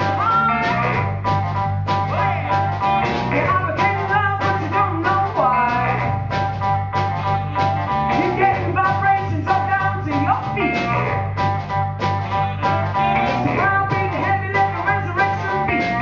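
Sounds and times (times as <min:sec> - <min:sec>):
drums keeping steady beat: 0:00.0 - 0:16.0
soul funk band playing: 0:00.0 - 0:16.0.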